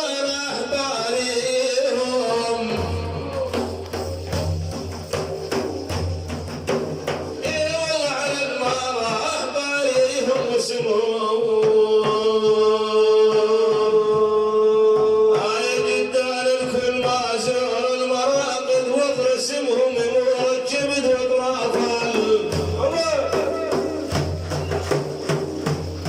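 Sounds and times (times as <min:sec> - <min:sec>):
man singing devotional chant: 0:00.0 - 0:04.1, 0:07.4 - 0:24.2
drum beats: 0:00.0 - 0:26.0.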